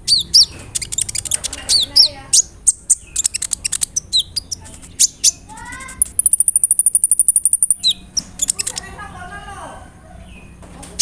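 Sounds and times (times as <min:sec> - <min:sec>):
bird very high trill: 0:00.0 - 0:09.3
bird high chirps: 0:00.0 - 0:10.6.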